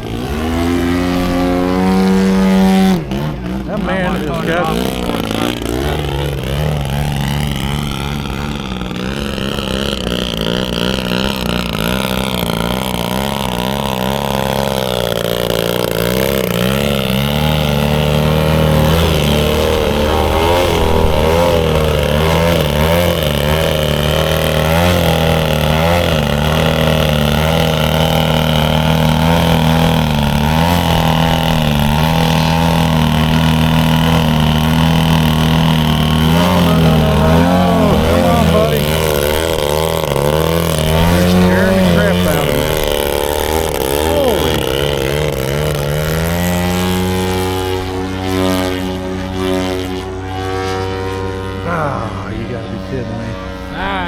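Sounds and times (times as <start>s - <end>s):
model airplane engine: 0.0s - 54.0s.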